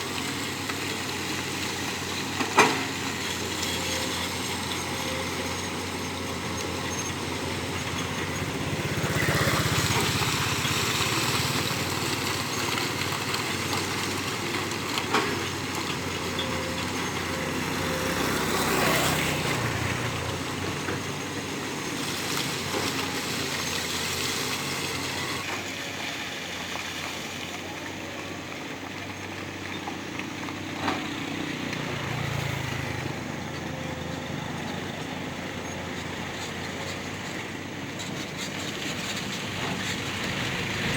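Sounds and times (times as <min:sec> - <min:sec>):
heavy machinery engine running: 0:00.0 - 0:40.9.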